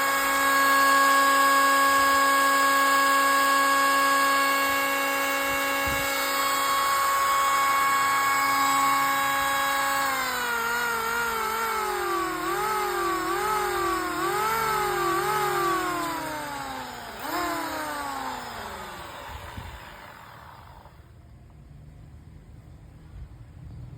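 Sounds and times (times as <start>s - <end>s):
electric planer motor whining: 0.0s - 21.1s.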